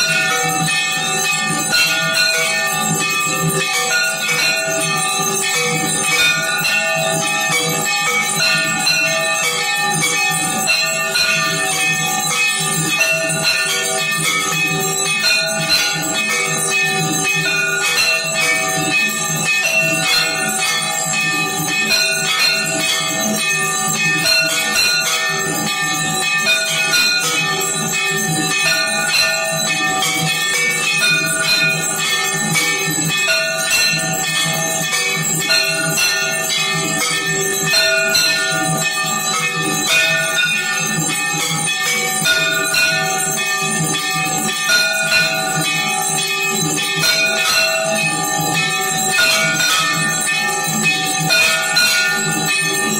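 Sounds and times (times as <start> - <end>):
temple bells clanging: 0.0 - 52.9.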